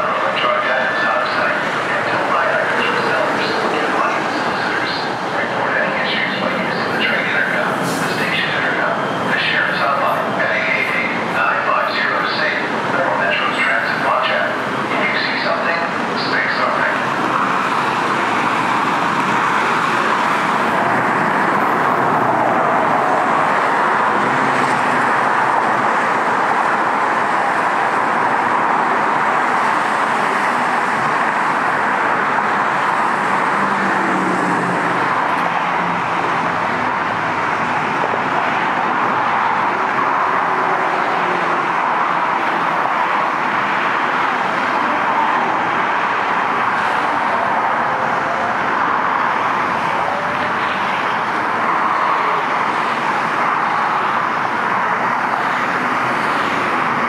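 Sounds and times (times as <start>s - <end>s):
freeway traffic roar: 0.0s - 57.0s.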